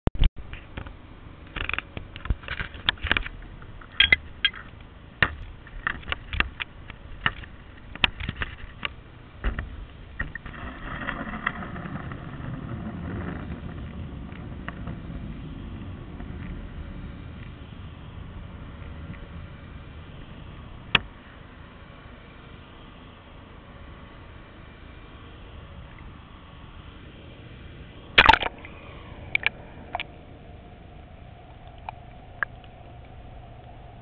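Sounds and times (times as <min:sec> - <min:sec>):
low rushing noise: 0:03.2 - 0:34.0.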